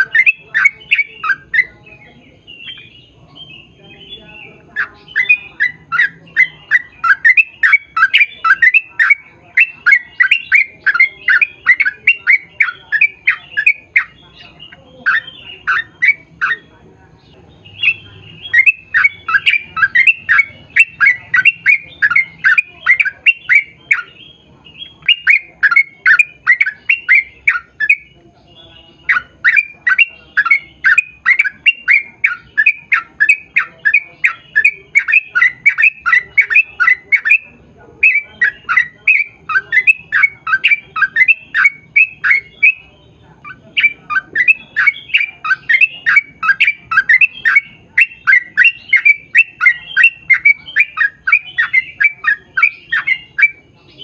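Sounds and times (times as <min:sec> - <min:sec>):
bulbul singing rapid notes: 0:00.0 - 0:54.0.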